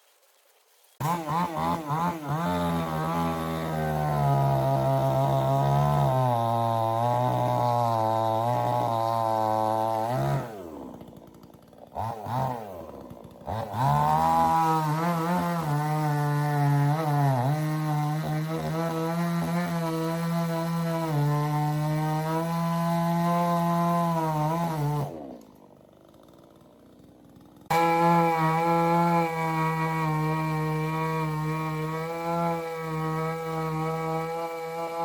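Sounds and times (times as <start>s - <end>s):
chainsaw revving: 1.0s - 35.0s.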